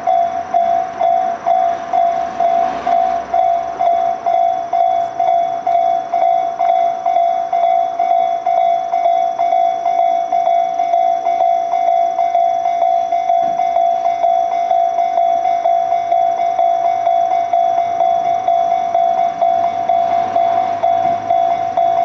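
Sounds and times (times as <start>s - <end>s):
level-crossing alarm bell: 0.0s - 22.0s.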